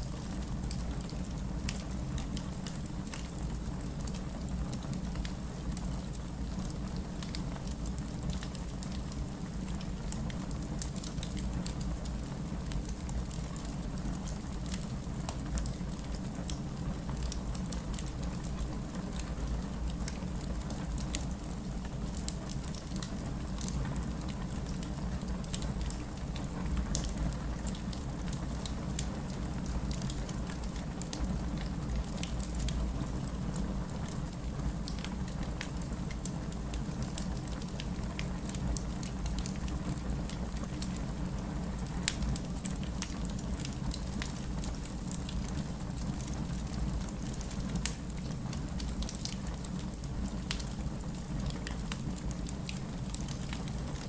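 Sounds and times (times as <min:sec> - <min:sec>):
logs crackling and popping: 0:00.1 - 0:54.0.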